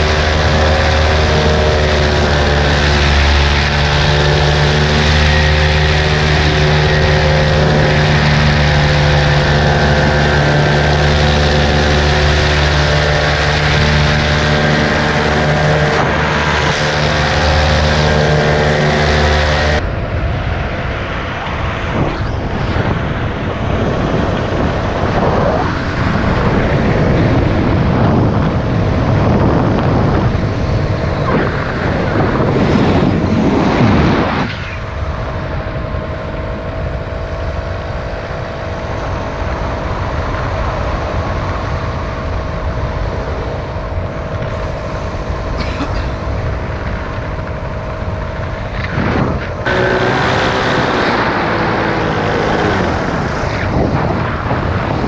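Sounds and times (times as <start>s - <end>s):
paramotor engine drone: 0.0s - 55.0s
wind on microphone: 0.0s - 55.0s.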